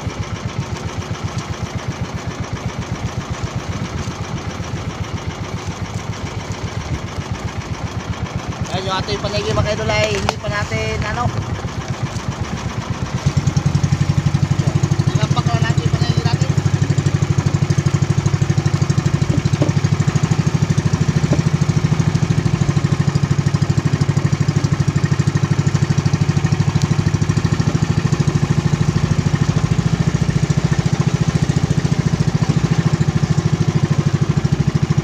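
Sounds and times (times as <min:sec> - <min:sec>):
boat engine chugging: 0:00.0 - 0:35.0.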